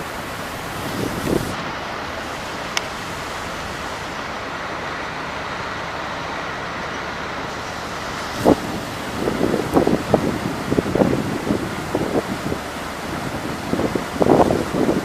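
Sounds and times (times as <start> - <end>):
vehicle driving through floodwater: 0.0 - 15.0.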